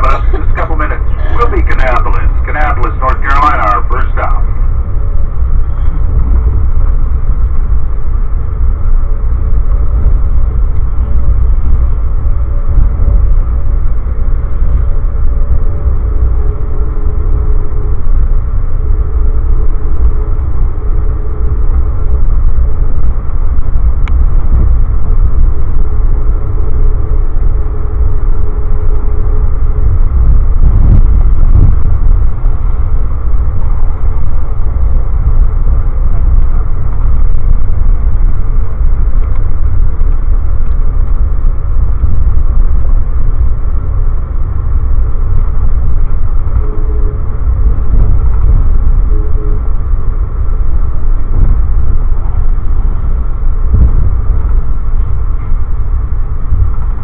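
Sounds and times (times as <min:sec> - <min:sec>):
faint humming tones: 0:00.0 - 0:57.0
train rumbling at speed: 0:00.0 - 0:57.0.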